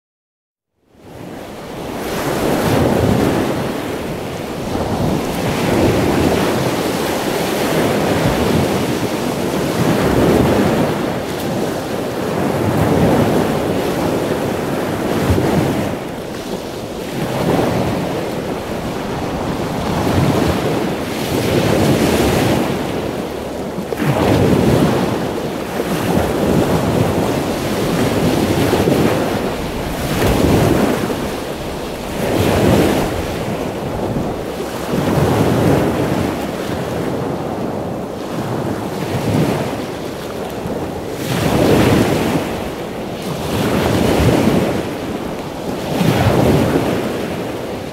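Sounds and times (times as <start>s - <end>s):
ocean waves breaking: 1.0s - 47.9s.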